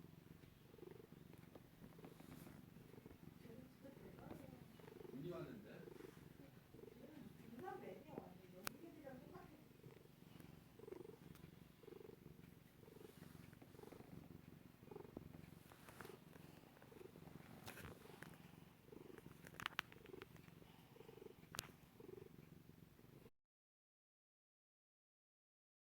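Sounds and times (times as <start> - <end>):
cat purring: 0.0 - 23.3.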